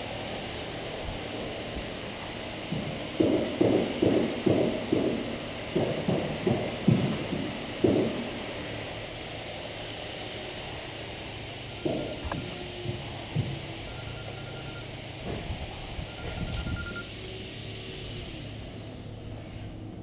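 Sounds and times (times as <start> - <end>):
steady high whine: 0.0 - 20.0.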